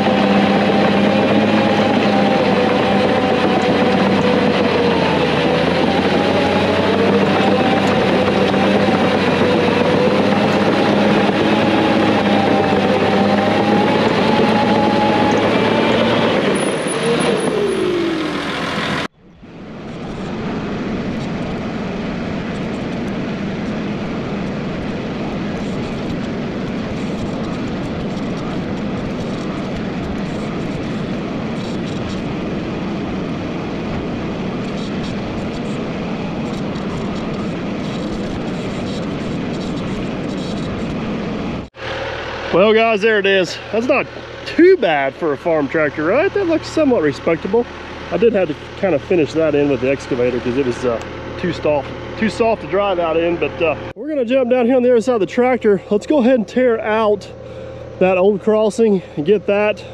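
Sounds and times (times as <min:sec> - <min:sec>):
dozer diesel engine under load: 0:00.0 - 0:59.9
tractor engine running: 0:00.0 - 0:59.9.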